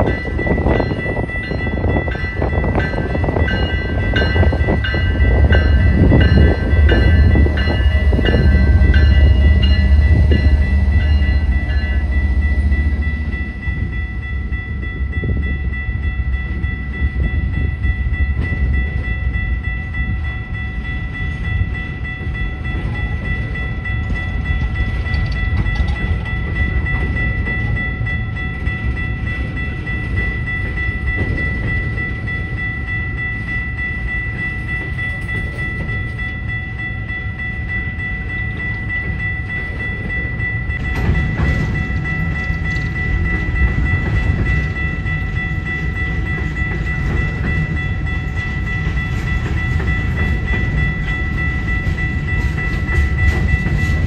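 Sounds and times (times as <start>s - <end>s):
locomotive rumble: 0.0s - 54.0s
steady high tone: 0.0s - 54.0s.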